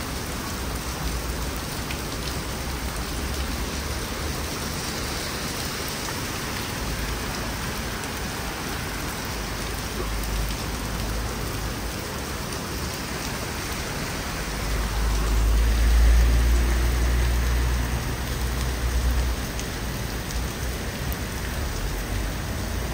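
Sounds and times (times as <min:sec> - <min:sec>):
torrential rain pouring: 0:00.0 - 0:22.9.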